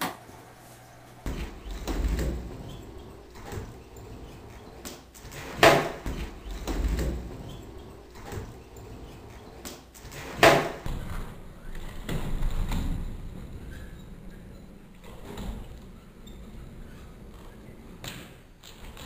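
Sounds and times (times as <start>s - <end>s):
faint knocks: 0.0s - 19.0s
skateboard wheels rumbling: 0.0s - 19.0s.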